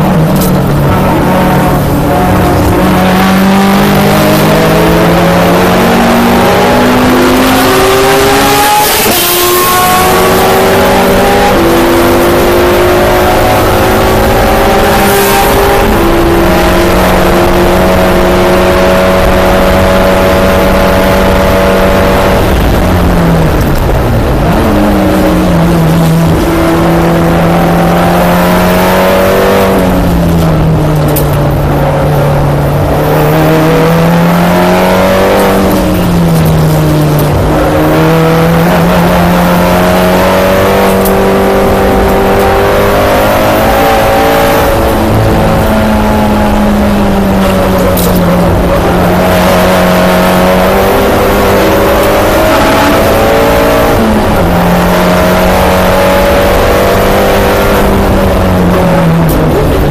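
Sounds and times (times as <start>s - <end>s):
race car engine revving: 0.0s - 59.9s
wind and road noise: 0.0s - 59.9s.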